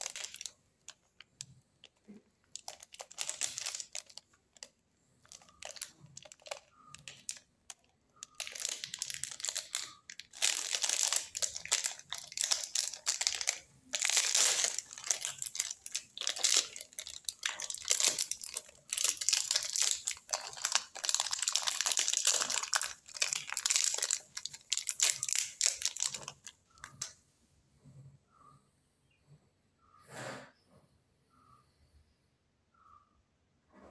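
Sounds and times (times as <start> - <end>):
plastic wrapper crinkling: 0.0 - 27.2.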